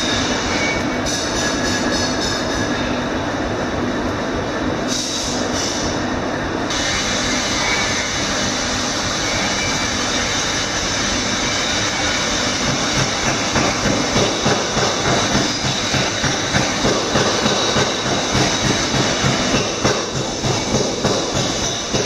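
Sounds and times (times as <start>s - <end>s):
workshop machinery running: 0.0s - 22.0s.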